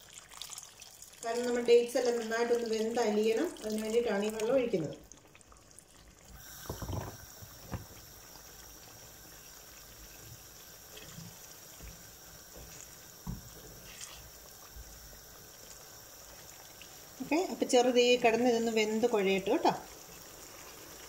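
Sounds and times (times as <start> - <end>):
faint steady hiss: 1.2 - 21.0.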